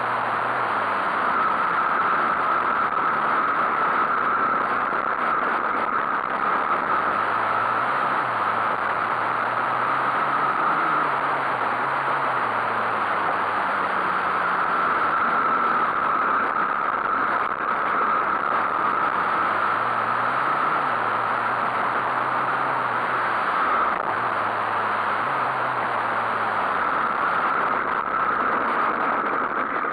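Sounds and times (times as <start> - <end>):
dirt bike engine revving: 0.0 - 17.3, 18.0 - 27.9
wind noise: 0.0 - 29.9.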